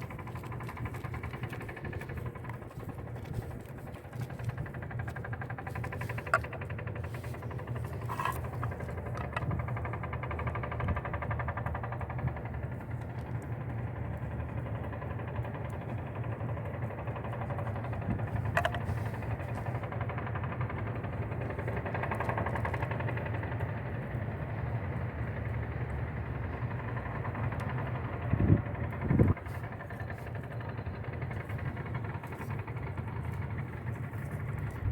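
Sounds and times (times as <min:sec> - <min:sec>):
mechanical engine-like hum: 0:00.0 - 0:34.9.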